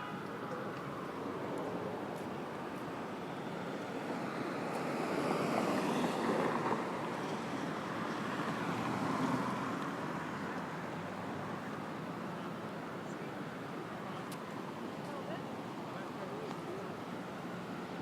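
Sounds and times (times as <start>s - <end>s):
vehicles rushing by: 0.0s - 18.0s.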